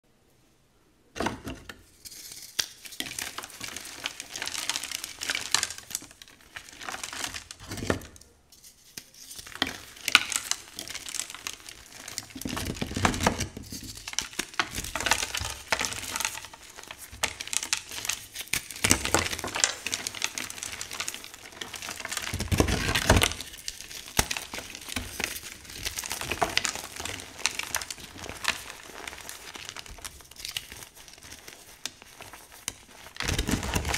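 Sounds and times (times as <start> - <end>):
hands crushing chalk blocks: 2.1 - 33.9.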